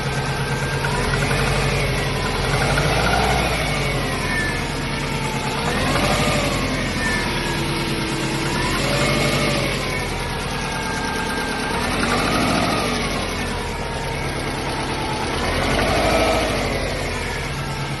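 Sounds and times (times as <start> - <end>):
engine idling with knock: 0.0 - 18.0.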